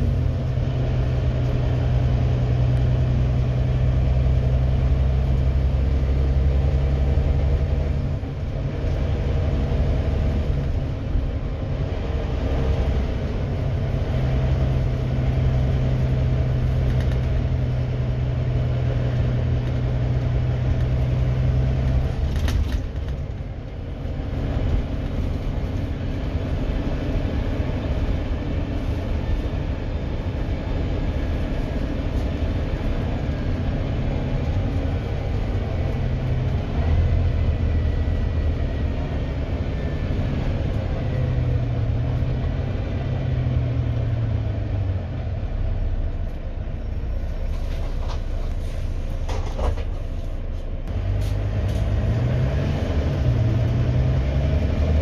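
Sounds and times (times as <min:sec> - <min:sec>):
bus diesel engine drone: 0:00.0 - 0:55.0
road rumble: 0:00.0 - 0:55.0.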